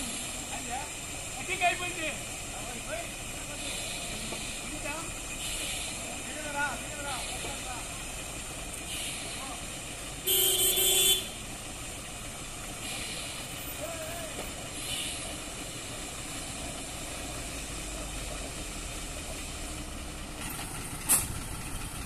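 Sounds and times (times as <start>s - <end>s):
air hisses: 0.0s - 10.4s, 11.0s - 19.8s
truck diesel engine running: 0.0s - 22.0s.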